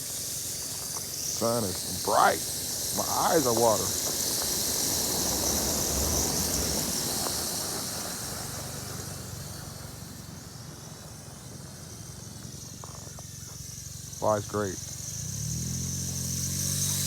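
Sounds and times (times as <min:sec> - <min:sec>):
toy drone motors whining: 0:00.0 - 0:17.0
car passing: 0:01.2 - 0:12.3, 0:14.0 - 0:17.0.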